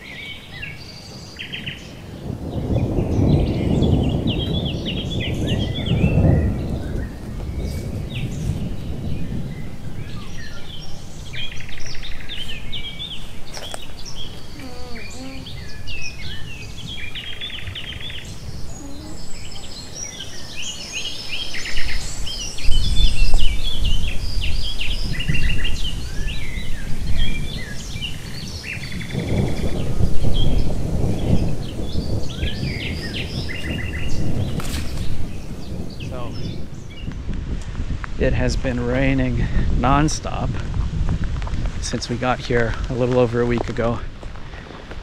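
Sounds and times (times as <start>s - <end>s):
birds singing: 0.0s - 37.3s.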